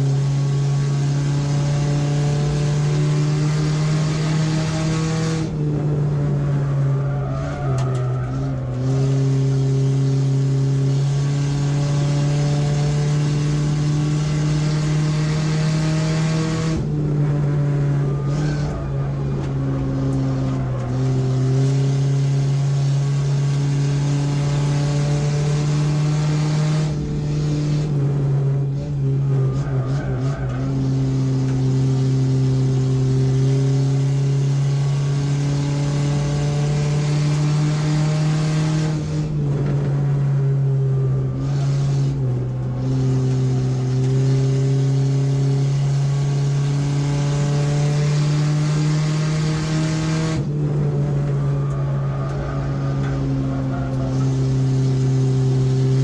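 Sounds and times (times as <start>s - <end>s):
race car engine pulling hard: 0.0s - 56.0s
tire squeal: 3.2s - 12.1s, 13.8s - 24.5s, 26.1s - 33.8s, 35.7s - 47.4s, 48.4s - 56.0s.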